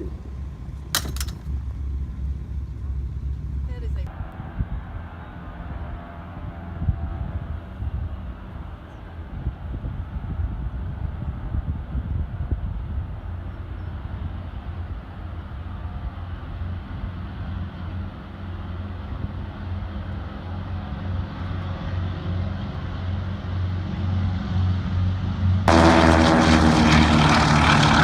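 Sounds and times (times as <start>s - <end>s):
propeller plane engines droning: 0.0s - 28.0s.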